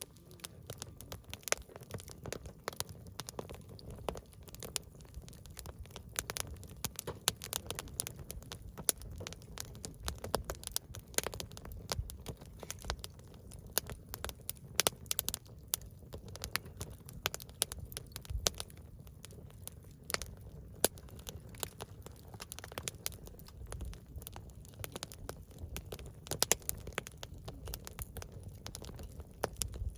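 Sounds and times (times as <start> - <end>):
campfire pops and crackles: 0.0 - 29.9
low rumble of flames: 0.0 - 29.9.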